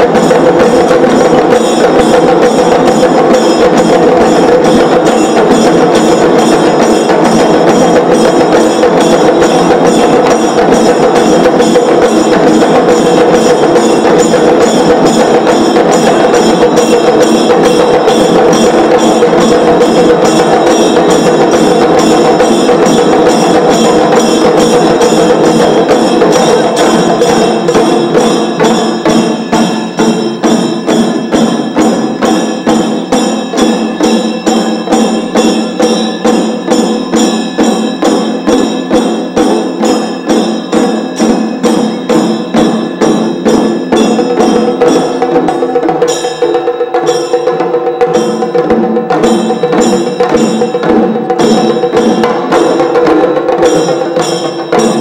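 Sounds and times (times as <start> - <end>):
chenda drums beaten with sticks: 0.0 - 55.0
hand cymbals: 0.0 - 55.0.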